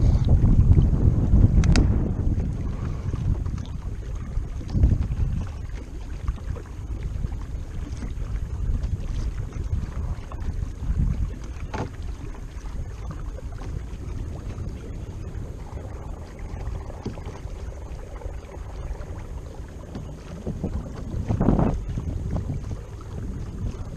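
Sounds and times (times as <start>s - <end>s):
water lapping against kayak hull: 0.0s - 23.9s
wind buffeting microphone: 0.0s - 23.9s.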